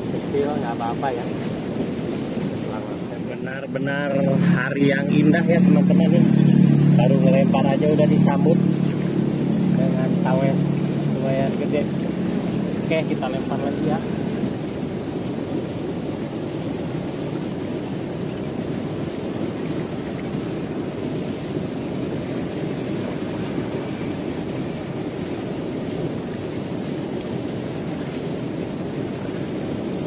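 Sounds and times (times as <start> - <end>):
river current rushing: 0.0 - 30.0.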